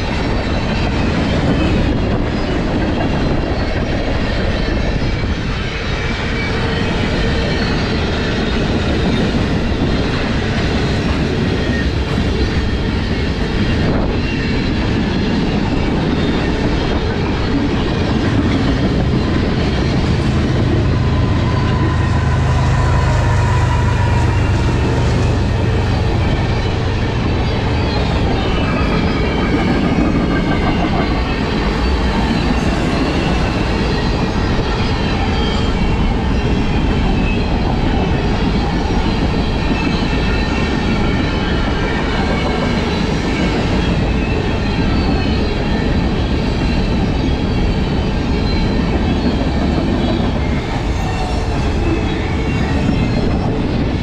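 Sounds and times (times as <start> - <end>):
train cars rolling past: 0.0 - 54.0.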